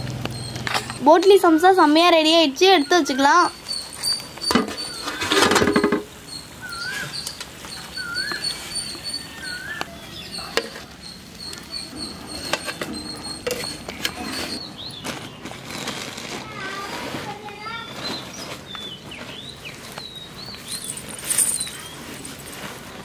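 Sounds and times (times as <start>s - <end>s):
bird chirping: 0.0s - 16.2s, 17.6s - 22.4s.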